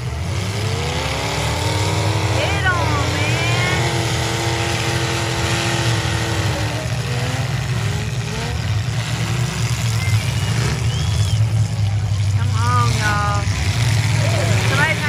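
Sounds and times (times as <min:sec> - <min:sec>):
car engines revving hard: 0:00.0 - 0:15.0
low engine rumble: 0:00.0 - 0:15.0
spectators calling: 0:00.2 - 0:08.1, 0:09.3 - 0:15.0.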